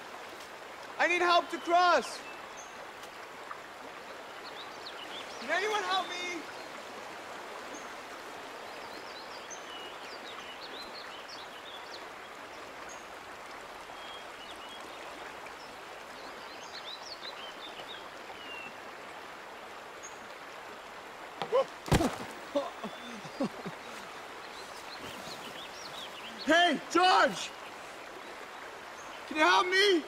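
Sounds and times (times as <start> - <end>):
creek running over rocks: 0.0 - 30.0.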